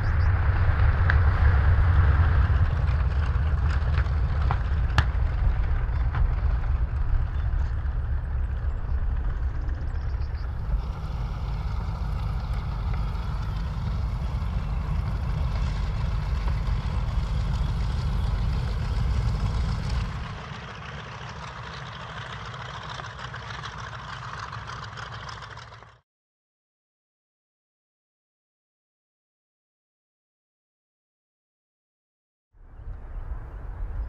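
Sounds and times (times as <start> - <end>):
aircraft engines rumbling: 0.0 - 26.0, 32.7 - 34.0.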